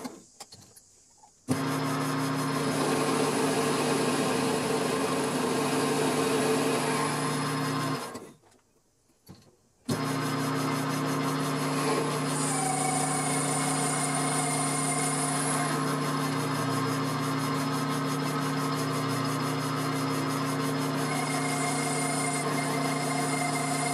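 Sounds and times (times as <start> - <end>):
metal lathe motor hum: 1.5 - 8.2, 9.9 - 23.9.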